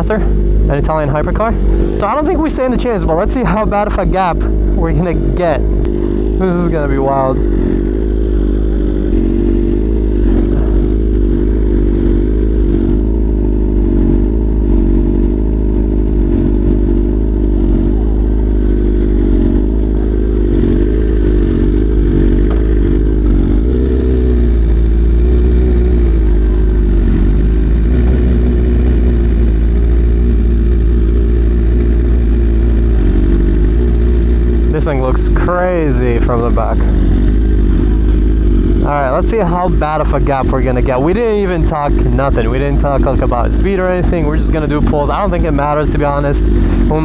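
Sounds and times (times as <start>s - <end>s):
deep rumble: 0.0s - 47.0s
motorcycle engine at low revs: 0.0s - 47.0s.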